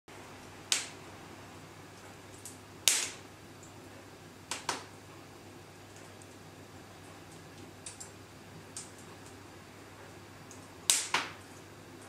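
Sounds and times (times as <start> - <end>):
fire crackling and popping: 0.2 - 1.2, 1.8 - 5.1, 5.7 - 12.0.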